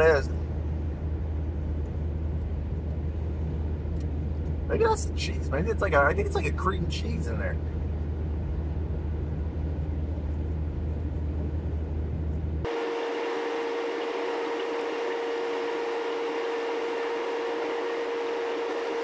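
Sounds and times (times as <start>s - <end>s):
car cabin road and engine noise: 0.0s - 19.0s
steady hum with mid-pitched tone: 0.0s - 19.0s.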